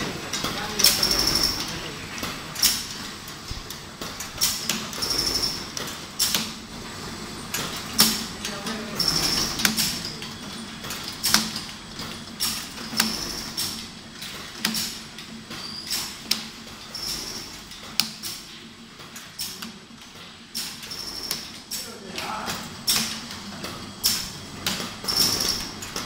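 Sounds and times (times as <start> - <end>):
machine motor hum: 0.0 - 26.0.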